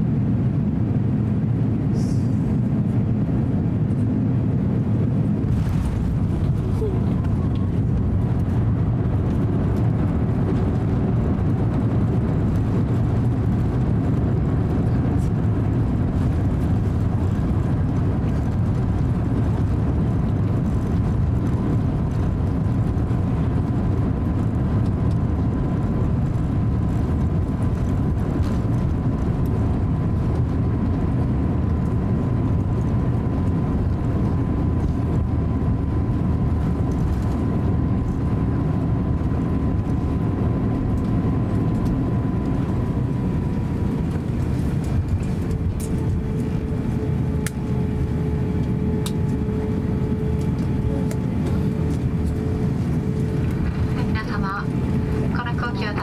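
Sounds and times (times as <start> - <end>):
aircraft cabin low rumble: 0.0 - 56.0
faint steady whine: 3.9 - 56.0.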